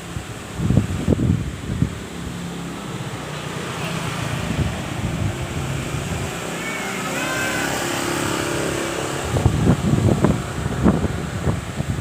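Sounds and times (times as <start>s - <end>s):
strong storm wind rushing: 0.0s - 12.0s
wind gusts buffeting microphone: 0.0s - 12.0s.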